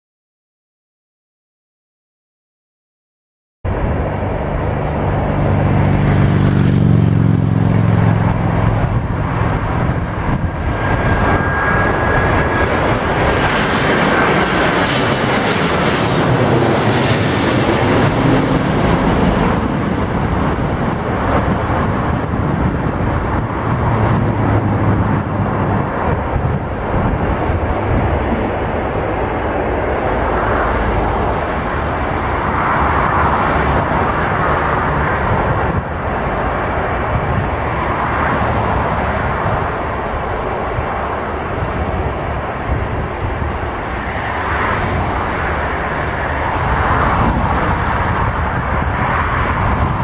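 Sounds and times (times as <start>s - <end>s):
jet engines roaring overhead: 3.7s - 50.0s.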